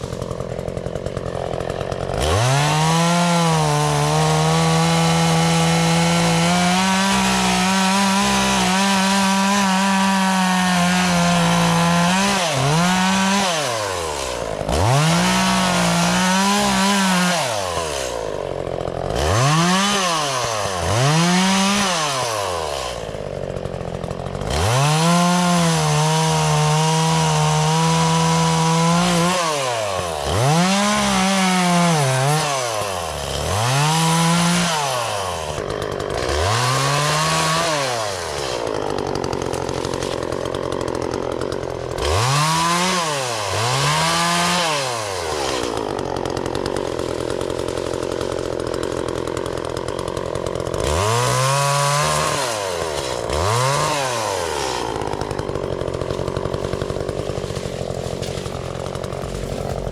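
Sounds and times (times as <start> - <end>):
chainsaw revving and cutting: 0.0 - 59.9.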